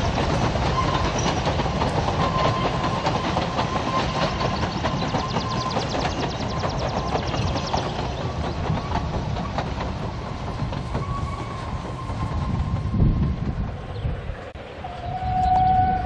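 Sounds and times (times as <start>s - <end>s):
wheels clicking over rail joints: 0.0s - 15.9s
railway carriages rumbling: 0.0s - 16.0s.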